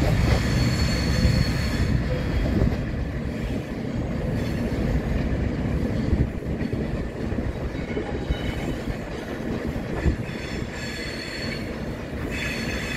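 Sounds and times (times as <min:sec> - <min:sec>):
diesel locomotive engine rumble: 0:00.0 - 0:12.9.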